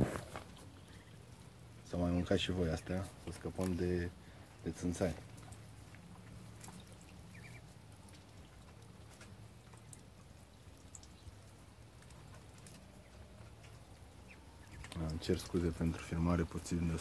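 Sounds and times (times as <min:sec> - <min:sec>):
ducks pecking and dabbling: 0:00.0 - 0:17.0.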